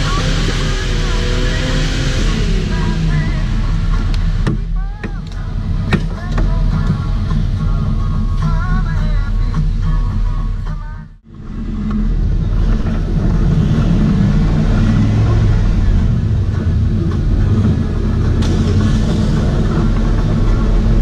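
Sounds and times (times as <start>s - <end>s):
engine low rumble: 0.0s - 21.0s.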